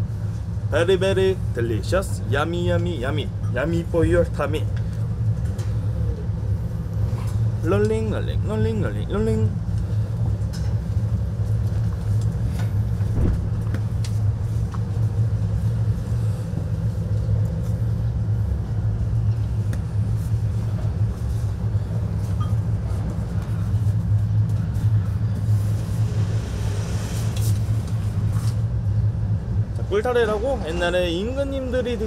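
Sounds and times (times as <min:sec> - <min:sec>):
low hum and rumble: 0:00.0 - 0:32.0.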